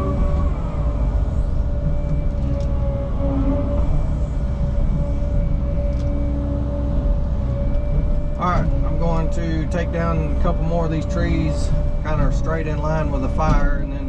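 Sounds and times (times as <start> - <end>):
diesel engine running: 0.0 - 14.0
steady whine: 0.0 - 14.0.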